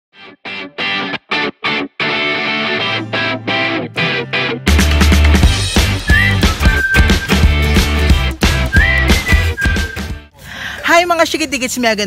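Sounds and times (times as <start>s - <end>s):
guitar intro music: 0.1s - 10.3s.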